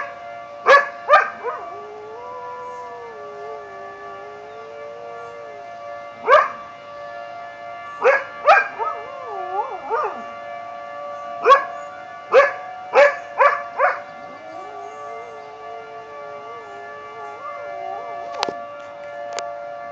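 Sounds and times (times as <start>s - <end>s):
tornado siren: 0.0s - 19.9s
dog howling: 0.6s - 6.6s, 8.0s - 10.4s, 11.2s - 18.8s.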